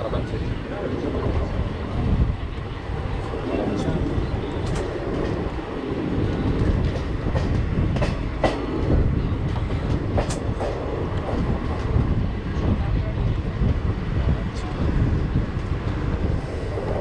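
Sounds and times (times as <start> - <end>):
wheels rumbling on rail: 0.0 - 17.0
wheels clacking on track: 1.0 - 17.0.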